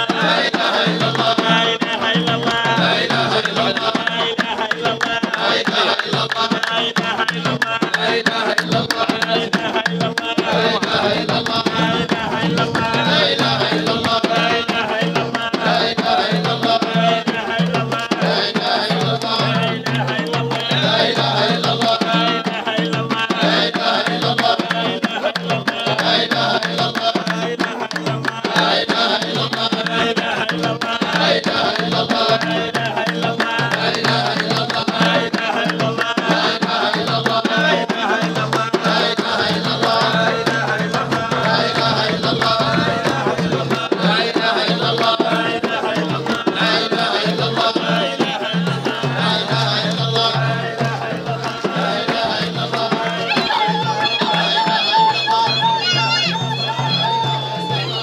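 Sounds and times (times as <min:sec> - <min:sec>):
drums beating: 0:00.0 - 0:58.0
group chanting: 0:00.0 - 0:58.0.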